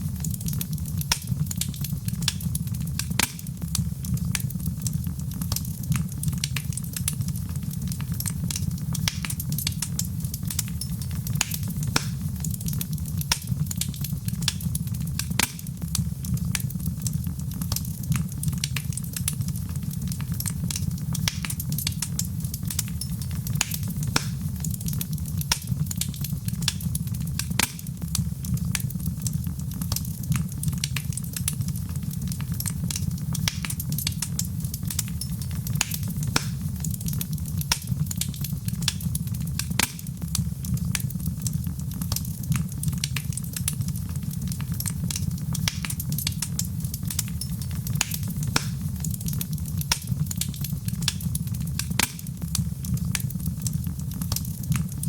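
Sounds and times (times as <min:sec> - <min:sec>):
wood fire burning and crackling: 0:00.0 - 0:55.0.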